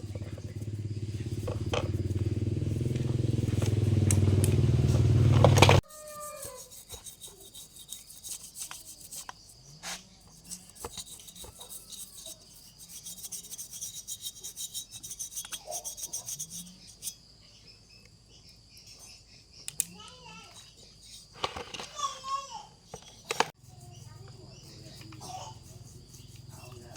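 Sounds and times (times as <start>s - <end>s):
scraping and rubbing strokes: 0.0s - 17.3s, 20.3s - 26.9s
high insect drone: 0.0s - 21.4s, 22.9s - 26.9s.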